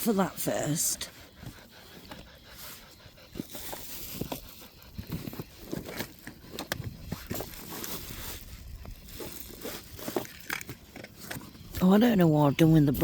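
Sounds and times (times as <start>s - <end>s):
rummaging through a bag: 0.0s - 12.0s.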